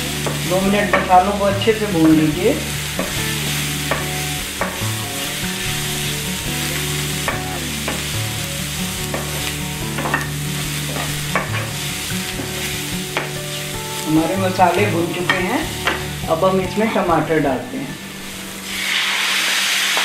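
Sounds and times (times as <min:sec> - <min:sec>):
onions sizzling in frying pan: 0:00.0 - 0:20.0.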